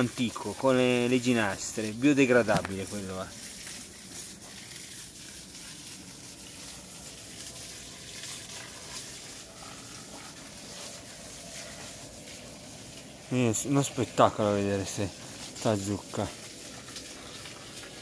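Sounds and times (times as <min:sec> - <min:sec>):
water spraying from garden hose: 0:00.0 - 0:18.0.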